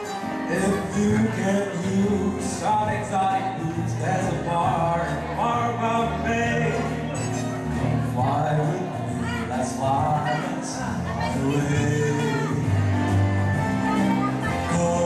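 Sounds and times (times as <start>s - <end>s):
man singing through microphone: 0.0s - 15.0s
musical accompaniment: 0.0s - 15.0s.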